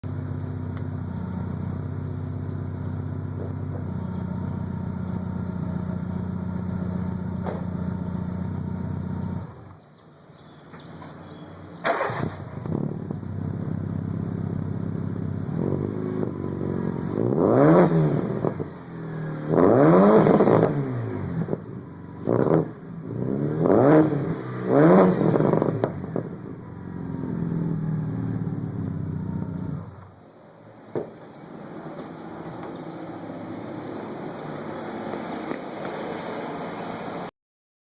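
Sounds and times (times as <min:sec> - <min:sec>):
car engine idling and revving: 0:00.0 - 0:37.3.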